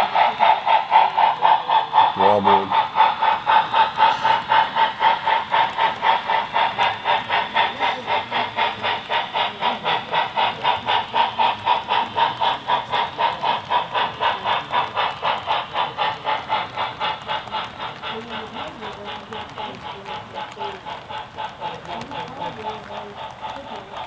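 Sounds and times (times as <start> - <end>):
model freight train running: 0.0 - 24.0.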